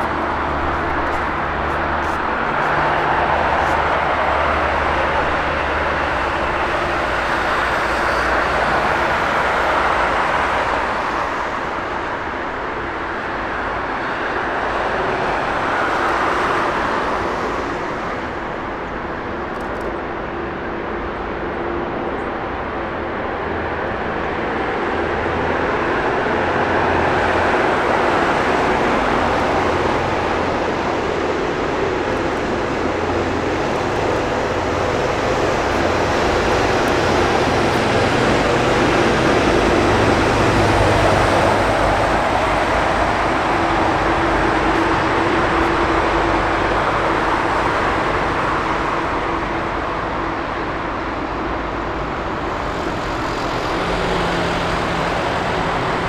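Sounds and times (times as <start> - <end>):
jet engine roar: 0.0 - 21.3, 22.0 - 56.0.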